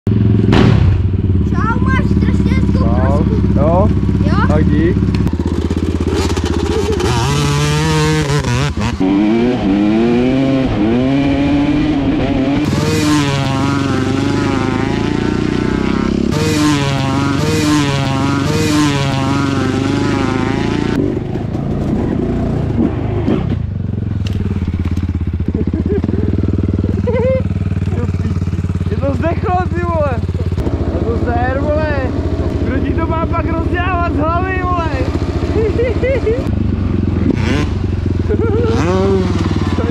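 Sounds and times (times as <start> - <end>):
dirt bike engines revving: 0.1 - 39.9.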